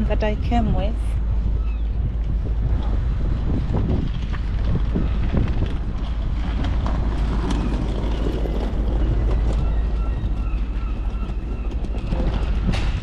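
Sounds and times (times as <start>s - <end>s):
train running: 0.0s - 13.0s
wind rumbling on microphone: 0.0s - 13.0s.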